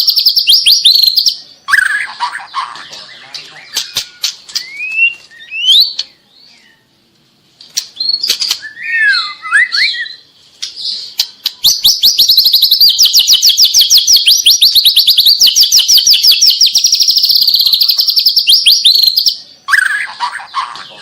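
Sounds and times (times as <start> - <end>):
bird singing whistled phrases: 0.0 - 2.1, 2.7 - 6.8, 8.0 - 10.3, 11.6 - 21.0.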